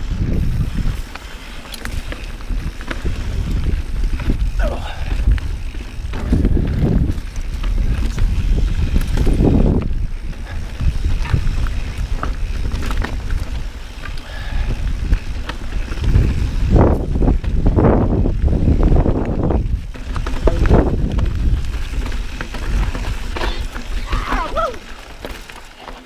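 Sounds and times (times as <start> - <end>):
wind buffeting microphone: 0.0 - 25.3
clicks and rattles from bike: 0.0 - 26.0
tyres rumbling on dirt: 0.0 - 26.0.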